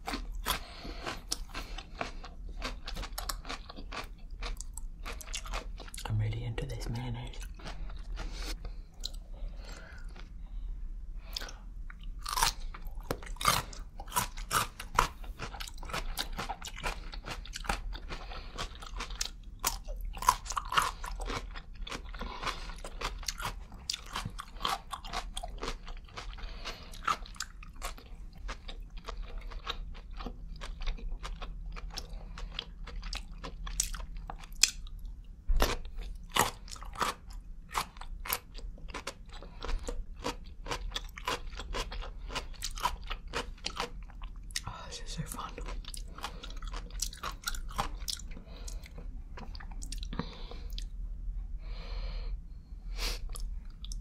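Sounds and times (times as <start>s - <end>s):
crunchy bites and wet chewing: 0.0s - 6.1s, 11.2s - 44.7s, 45.4s - 50.9s.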